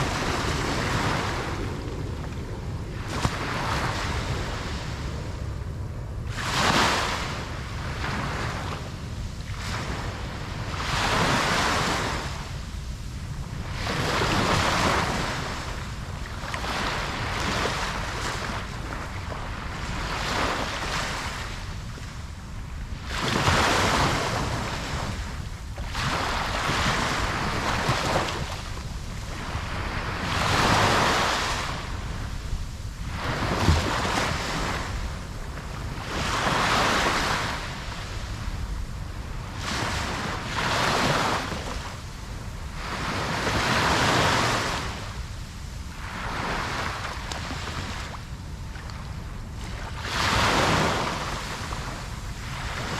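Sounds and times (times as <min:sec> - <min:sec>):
ocean surf breaking on beach: 0:00.0 - 0:52.9.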